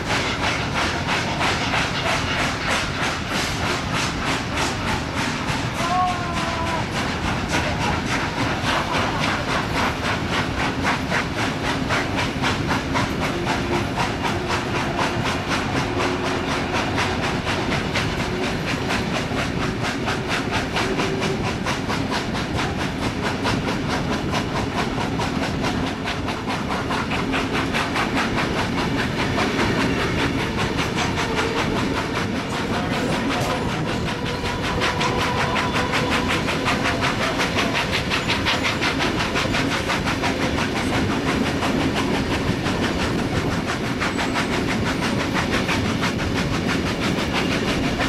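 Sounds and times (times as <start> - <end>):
carriage wheels rumbling on rails: 0.0 - 48.0
steam locomotive exhaust beating: 0.0 - 48.0.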